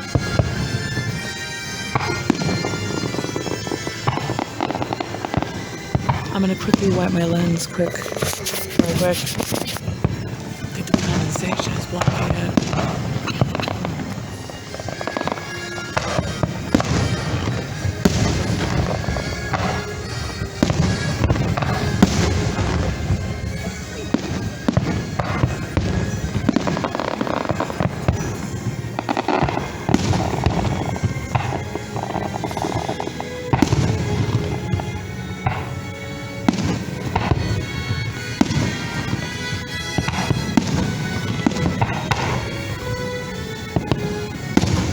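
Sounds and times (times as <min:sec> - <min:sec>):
distant music: 0:00.0 - 0:44.9
fireworks bursting and crackling: 0:00.0 - 0:44.9.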